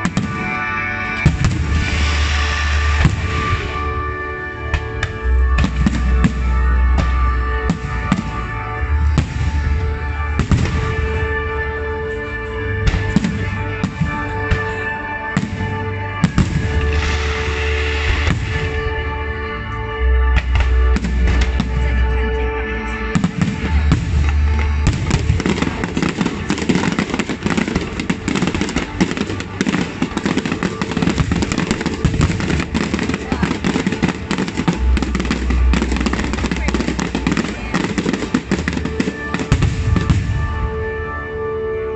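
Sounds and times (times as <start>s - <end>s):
fireworks bangs and crackle: 0.0s - 19.3s, 20.3s - 22.2s, 23.1s - 41.7s
music with heavy bass: 0.0s - 41.9s.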